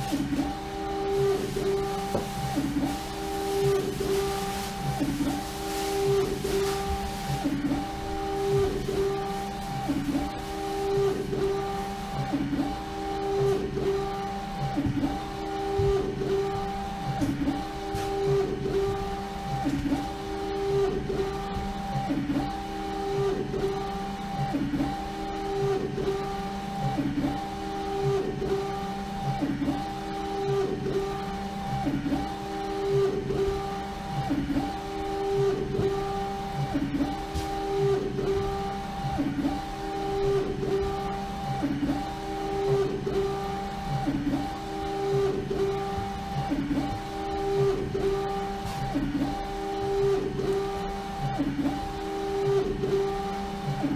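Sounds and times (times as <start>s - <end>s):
printer carriage whine: 0.0s - 53.9s.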